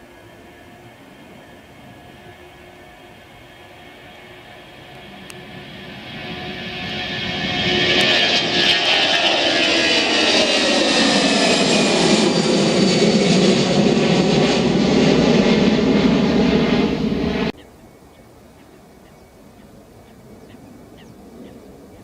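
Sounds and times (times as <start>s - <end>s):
jet engines at takeoff power: 0.0s - 17.6s, 18.4s - 22.0s.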